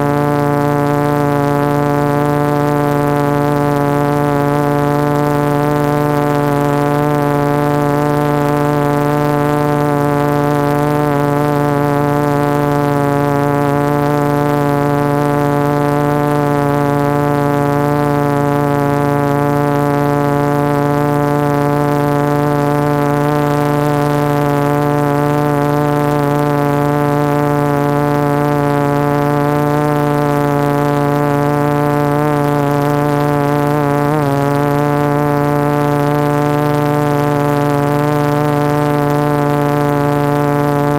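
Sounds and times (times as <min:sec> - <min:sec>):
quadcopter motors whining hum: 0:00.0 - 0:40.9.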